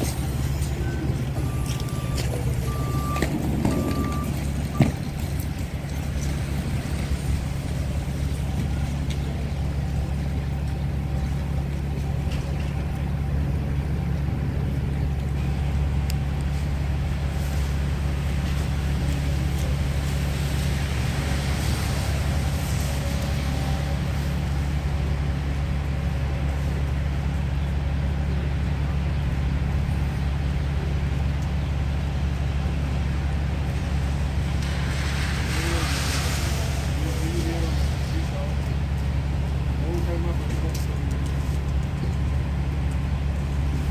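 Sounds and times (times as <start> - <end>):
diesel bus idling: 0.0 - 43.9.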